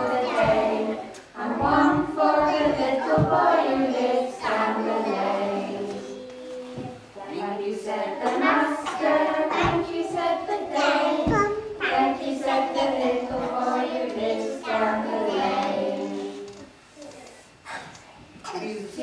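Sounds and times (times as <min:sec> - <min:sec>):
young children singing: 0:00.0 - 0:17.8.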